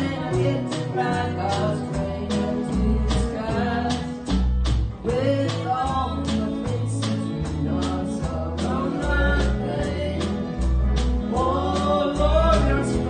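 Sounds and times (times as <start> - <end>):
electric guitar: 0.0 - 13.0
steady drum beat: 0.0 - 13.0
women singing: 0.0 - 13.0.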